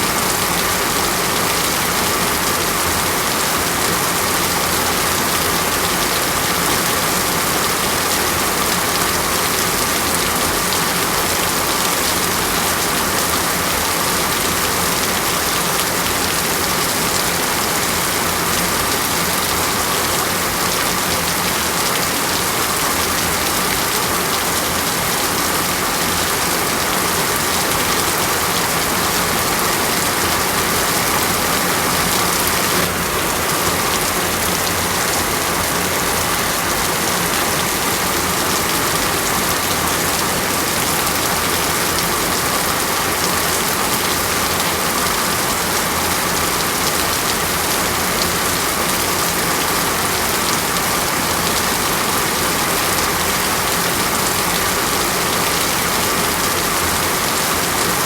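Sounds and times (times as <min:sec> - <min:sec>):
rain hissing on a surface: 0:00.0 - 0:58.0.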